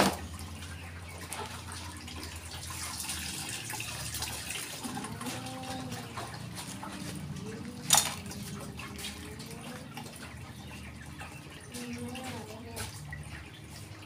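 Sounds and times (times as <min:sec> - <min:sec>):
water sloshing in plastic bucket: 0:00.0 - 0:14.0.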